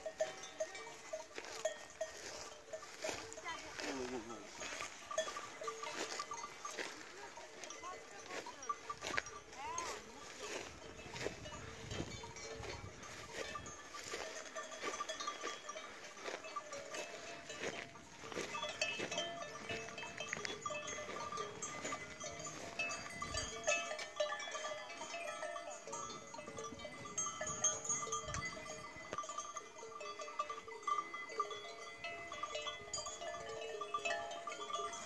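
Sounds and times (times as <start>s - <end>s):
cattle bells clanking: 0.0s - 35.0s.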